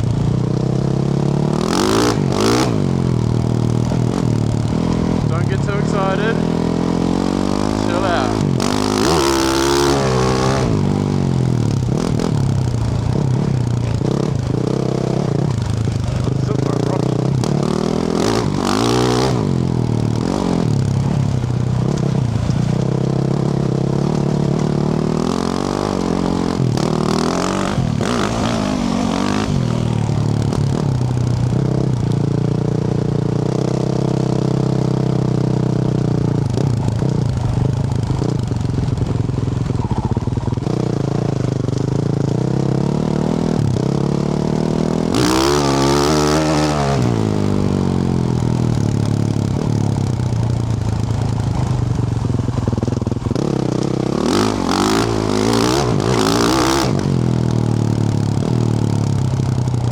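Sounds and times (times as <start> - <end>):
dirt bike engine revving: 0.0 - 32.0, 39.8 - 51.7, 52.4 - 59.2.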